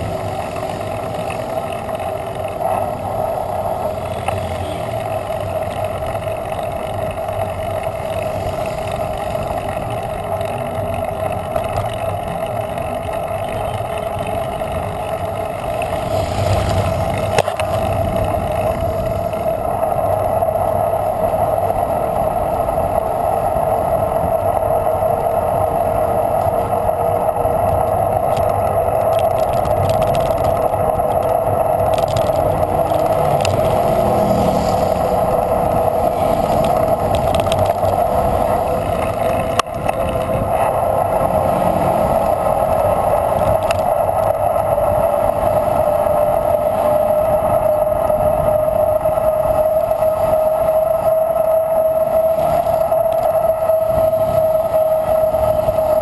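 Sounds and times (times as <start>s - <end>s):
bicycle tyres on asphalt: 0.0s - 56.0s
motorcycle passing: 0.0s - 56.0s
wind: 0.0s - 56.0s.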